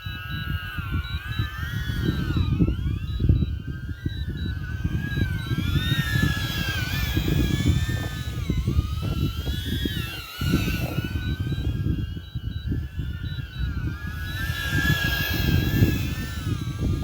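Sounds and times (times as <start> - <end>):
drone propellers whining: 0.0 - 17.0
wind buffeting microphone: 0.0 - 17.0.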